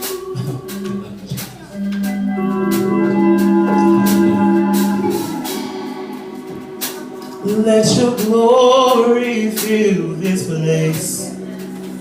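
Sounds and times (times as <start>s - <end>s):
organ sustained chords: 0.0s - 12.0s
percussion hits: 0.0s - 12.0s.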